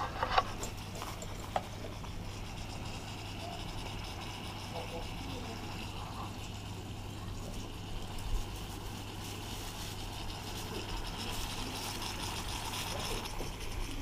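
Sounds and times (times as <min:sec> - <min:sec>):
steak sizzling in a pot: 0:00.0 - 0:14.0.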